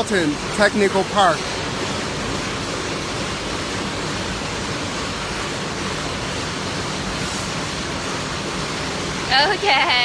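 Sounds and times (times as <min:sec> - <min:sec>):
factory machines hissing and rumbling: 0:00.0 - 0:10.0.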